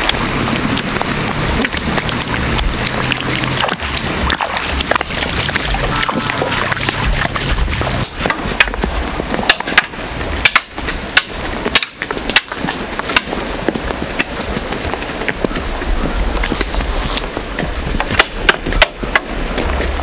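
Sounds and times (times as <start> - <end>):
hooves clopping on stony track: 0.0 - 20.0.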